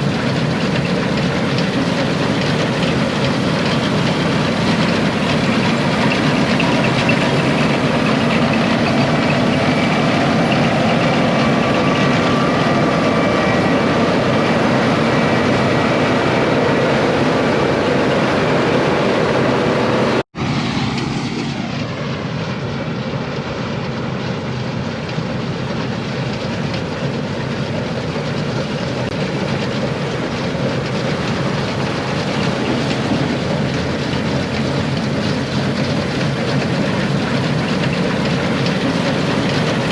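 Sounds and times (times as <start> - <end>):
combine harvester rumbling: 0.0 - 39.9.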